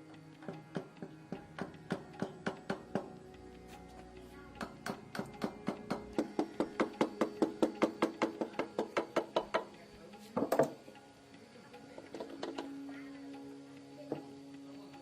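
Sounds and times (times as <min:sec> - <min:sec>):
rapid regular knocking: 0:00.4 - 0:14.4.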